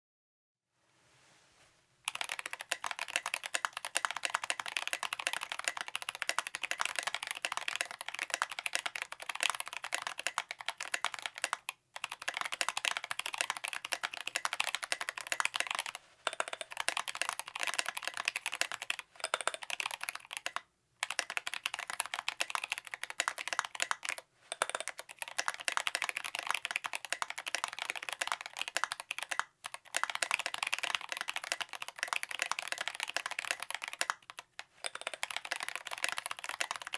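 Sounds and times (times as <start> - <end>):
mechanical keyboard typing: 2.1 - 36.9.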